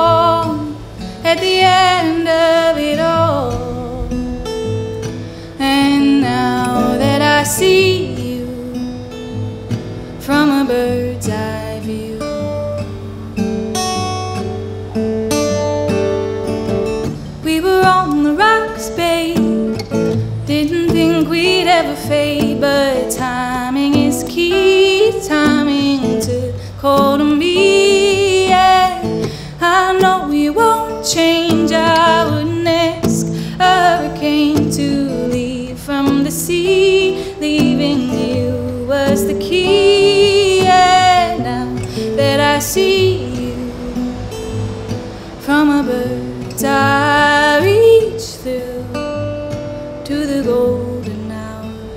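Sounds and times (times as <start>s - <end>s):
woman singing with vibrato: 0.0s - 12.8s, 17.0s - 51.9s
acoustic guitar chords: 0.0s - 51.9s.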